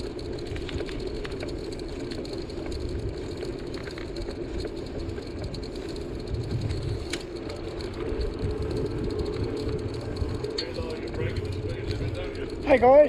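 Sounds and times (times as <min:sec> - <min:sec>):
bicycle tyres rumbling on pavement: 0:00.0 - 0:13.0.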